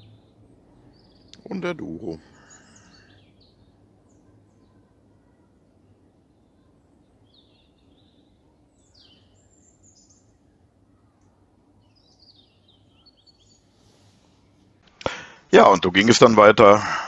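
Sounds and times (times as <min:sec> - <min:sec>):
small birds chirping: 0:00.0 - 0:16.3
faint low background hum: 0:00.0 - 0:17.0.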